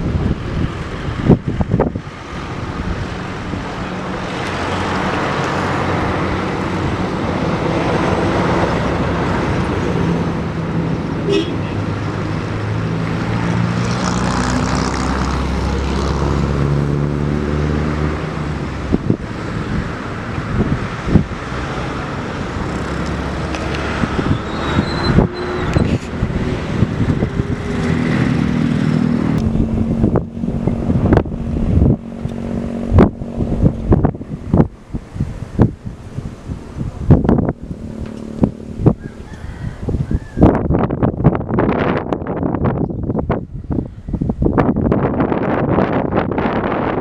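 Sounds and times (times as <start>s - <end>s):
vehicle engines in traffic: 0.0s - 47.0s.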